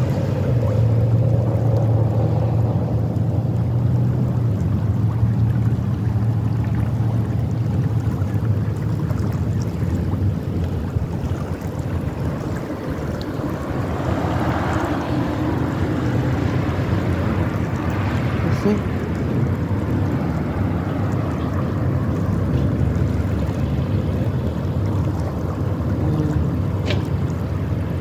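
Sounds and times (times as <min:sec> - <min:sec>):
flowing creek water: 0:00.0 - 0:28.0
wind buffeting microphone: 0:00.0 - 0:28.0.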